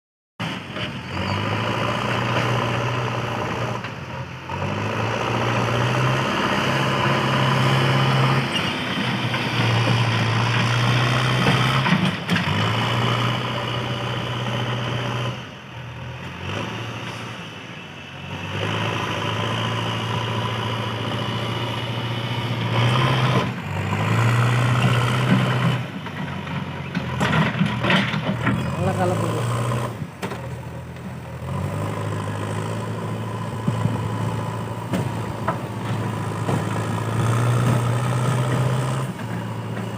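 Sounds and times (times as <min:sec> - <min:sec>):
diesel engine revving: 0:00.4 - 0:39.9.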